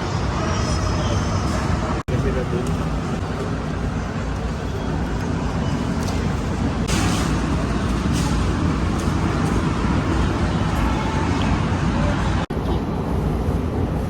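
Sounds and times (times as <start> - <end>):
loud traffic rumble: 0.0 - 14.0.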